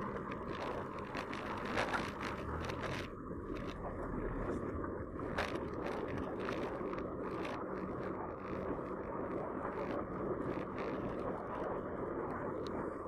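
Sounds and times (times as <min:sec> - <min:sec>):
tyres rumbling on wet pavement: 0:00.0 - 0:11.2
bike clicks and rattles: 0:00.0 - 0:12.8.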